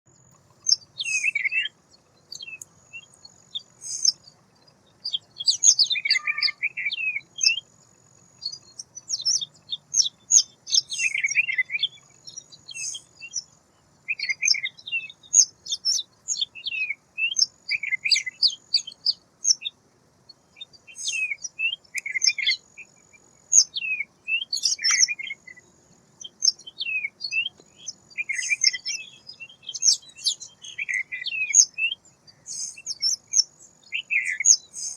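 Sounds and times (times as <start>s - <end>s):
wagtail chirping and twittering: 0.1s - 34.9s.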